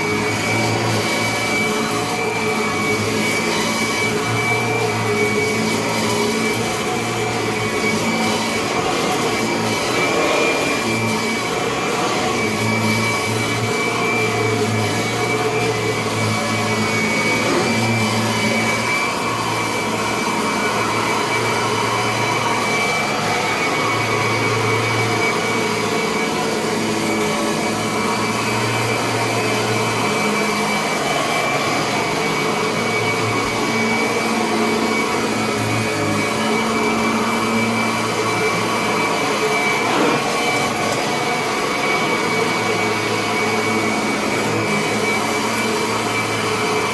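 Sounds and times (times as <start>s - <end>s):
upright vacuum cleaner running: 0.0s - 46.9s.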